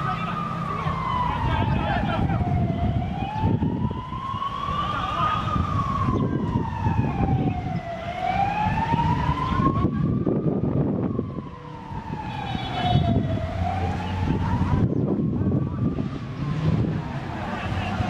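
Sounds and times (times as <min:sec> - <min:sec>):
wailing siren: 0:00.0 - 0:18.0.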